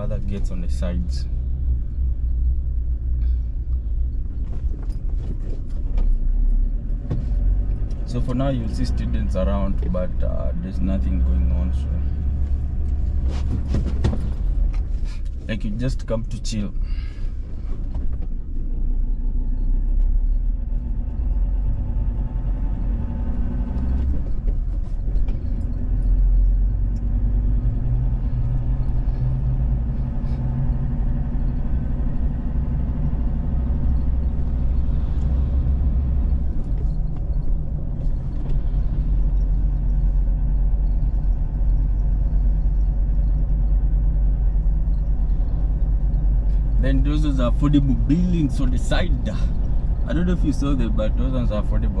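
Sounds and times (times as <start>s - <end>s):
vehicle driving on road: 0.0s - 52.0s.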